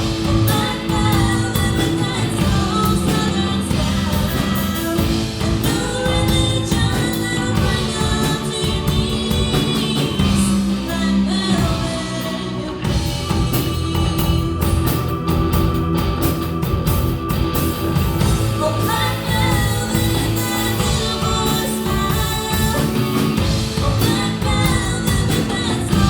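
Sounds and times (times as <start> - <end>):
steady drum beat: 0.0 - 12.2, 12.8 - 26.0
live rock band: 0.0 - 26.0
person singing: 0.0 - 26.0.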